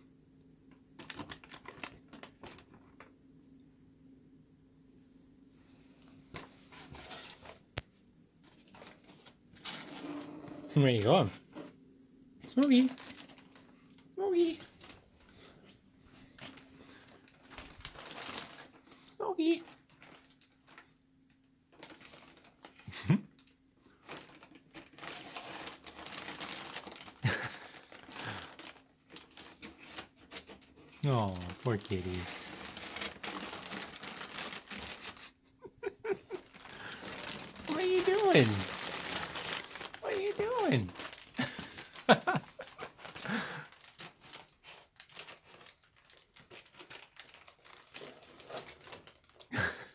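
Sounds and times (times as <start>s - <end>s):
plastic wrap crinkling: 0.9s - 3.1s, 8.4s - 11.3s, 12.4s - 21.0s, 21.7s - 49.9s.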